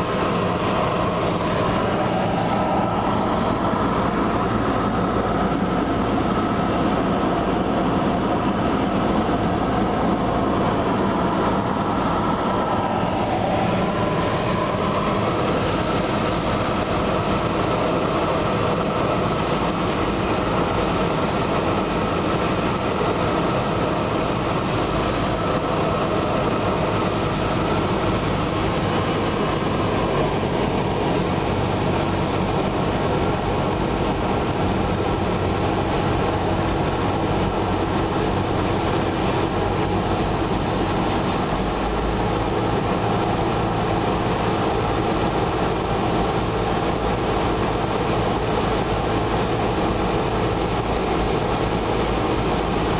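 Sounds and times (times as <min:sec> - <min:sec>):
air rushing over airframe: 0:00.0 - 0:52.9
aircraft engine and propeller droning: 0:00.0 - 0:52.9.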